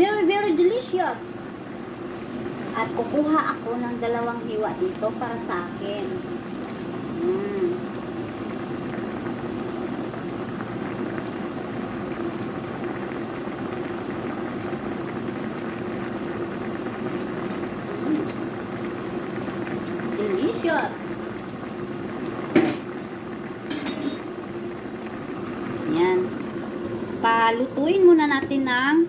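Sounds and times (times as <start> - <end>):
sauce bubbling in a pan: 0.0 - 29.0.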